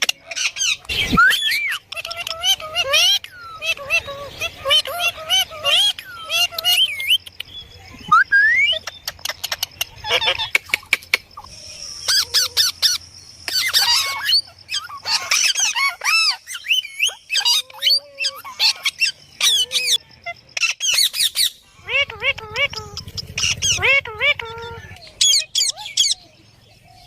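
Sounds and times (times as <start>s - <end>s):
parakeet squawking and chattering: 0.0s - 7.4s, 8.7s - 26.3s.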